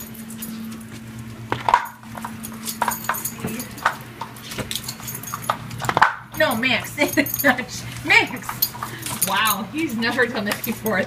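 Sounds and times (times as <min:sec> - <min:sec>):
dogs crunching kibble: 0:00.0 - 0:11.0
steady low hum: 0:00.0 - 0:11.0.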